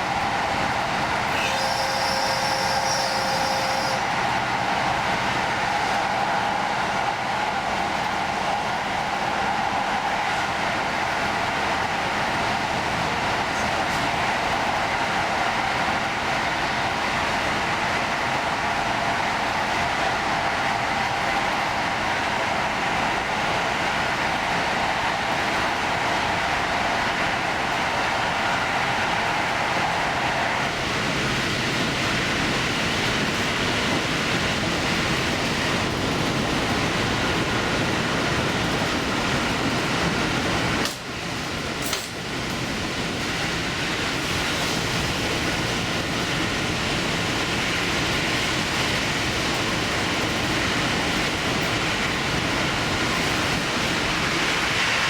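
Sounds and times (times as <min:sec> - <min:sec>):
railcar diesel engine: 0:00.0 - 0:55.0
train wheels on rail: 0:00.0 - 0:55.0.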